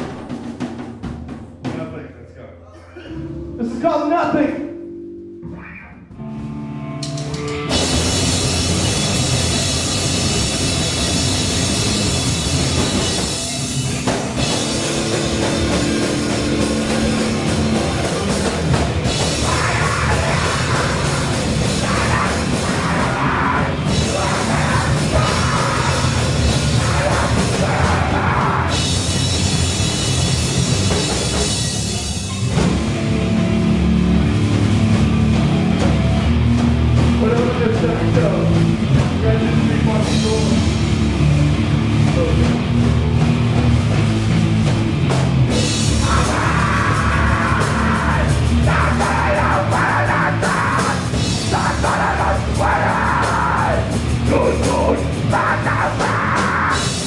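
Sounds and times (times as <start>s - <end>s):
live rock band playing: 0.0s - 2.1s, 3.2s - 57.0s.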